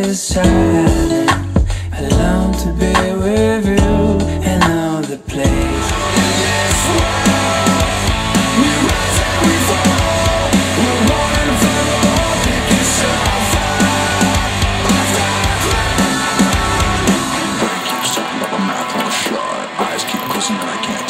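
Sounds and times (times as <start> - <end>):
rock music through speakers: 0.0 - 21.0.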